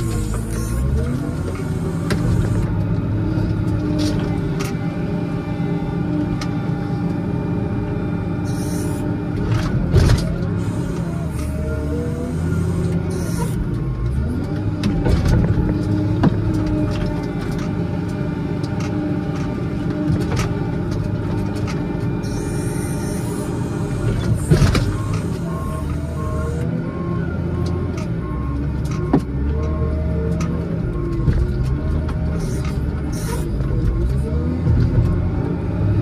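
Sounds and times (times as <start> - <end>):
loader knocks and clunks: 0.0 - 5.0, 9.3 - 22.2, 24.0 - 36.0
wheel loader diesel engine: 0.0 - 36.0.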